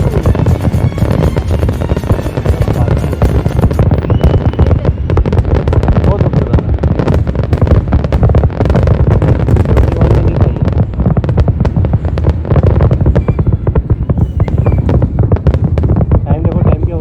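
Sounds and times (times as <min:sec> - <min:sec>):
deep rumble: 0:00.0 - 0:17.0
fireworks bangs and crackles: 0:00.0 - 0:17.0.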